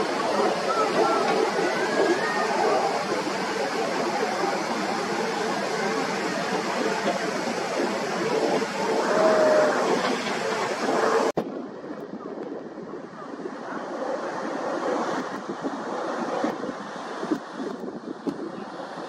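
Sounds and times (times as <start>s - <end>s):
jet engines overhead: 0.0s - 19.0s.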